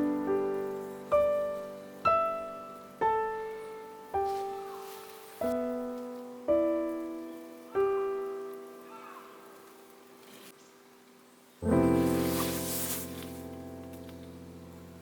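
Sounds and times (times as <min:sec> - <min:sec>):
piano music: 0:00.0 - 0:10.6, 0:11.6 - 0:15.0.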